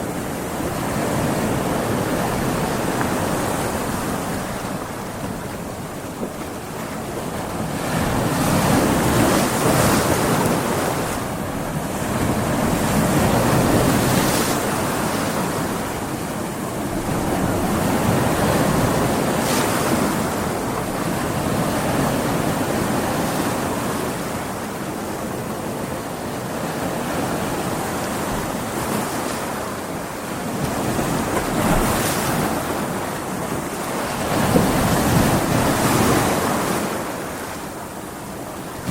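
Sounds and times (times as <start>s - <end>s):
ocean waves breaking on beach: 0.0s - 38.9s
wind: 0.0s - 38.9s.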